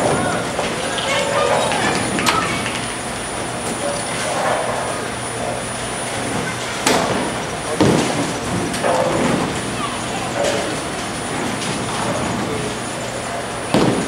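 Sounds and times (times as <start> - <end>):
pinsetter machinery: 0.0 - 14.0
rumble of rolling bowling balls: 0.0 - 14.0.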